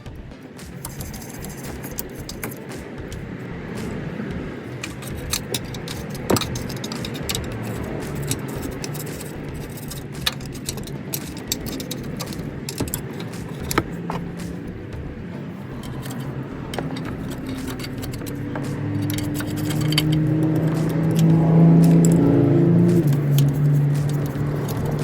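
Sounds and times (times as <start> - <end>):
steady low hum: 0.0 - 25.0
clinks and rattles: 4.6 - 25.0.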